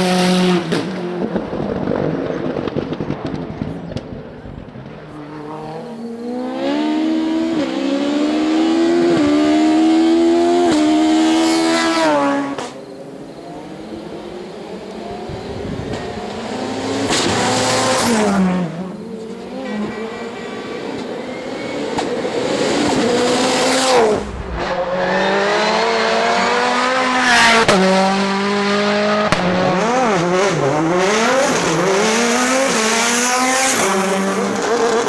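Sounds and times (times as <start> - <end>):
race car passing at high revs: 0.0 - 3.6, 4.8 - 35.0
race car accelerating: 4.6 - 35.0
race car engine revving: 5.1 - 12.8, 13.4 - 35.0.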